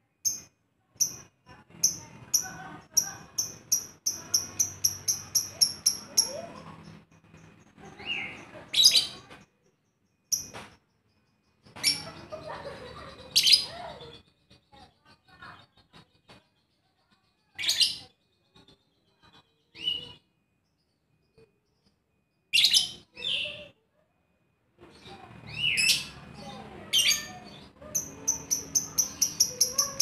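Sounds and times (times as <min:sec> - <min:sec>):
bird chirping: 0:00.2 - 0:23.7, 0:24.3 - 0:30.0.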